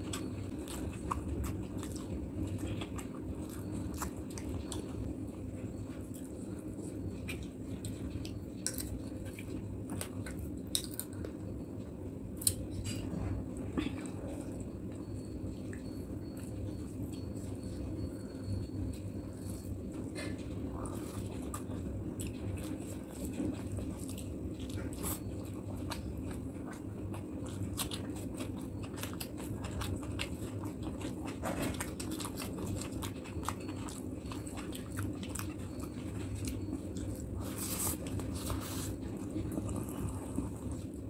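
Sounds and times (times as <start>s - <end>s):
man chewing food: 0.0s - 41.0s
steady low hum: 0.0s - 41.0s.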